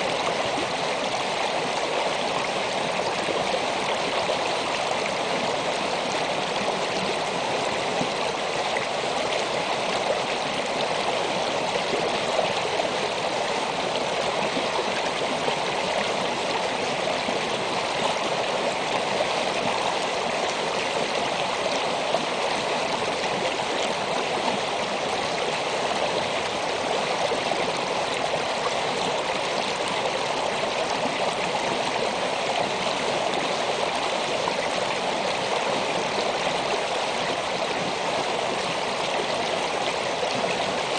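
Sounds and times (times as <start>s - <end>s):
creek flowing over rocks: 0.0s - 40.9s.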